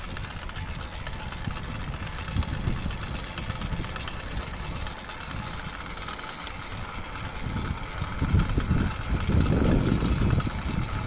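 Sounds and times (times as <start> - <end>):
wind rushing over microphone: 0.0 - 5.8, 6.7 - 11.0
two-stroke engine running: 0.0 - 11.0.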